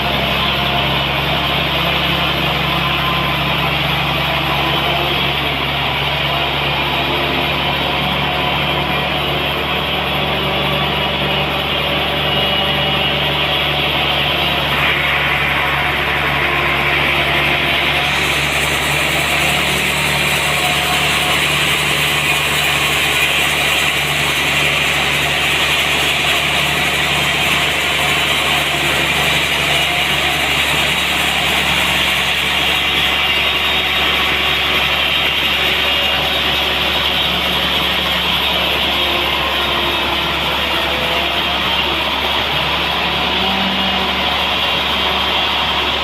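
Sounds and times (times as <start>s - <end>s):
sawmill engine hum: 0.0s - 46.0s.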